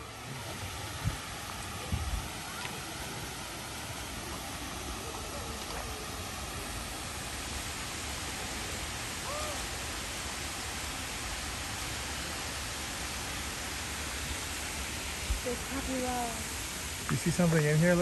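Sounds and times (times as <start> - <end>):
waterfall cascading into pond: 0.0 - 18.0.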